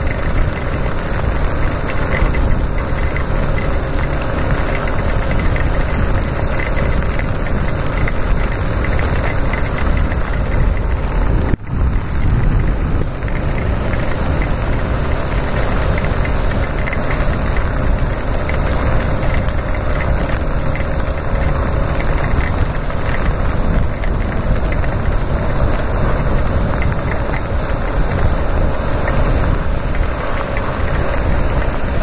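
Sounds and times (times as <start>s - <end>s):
motorcycle engine running: 0.0s - 32.0s
rushing noise of wet road: 0.0s - 32.0s.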